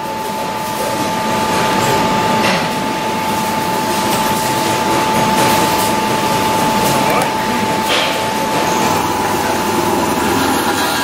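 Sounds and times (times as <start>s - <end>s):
milling machine high whine: 0.0s - 11.0s.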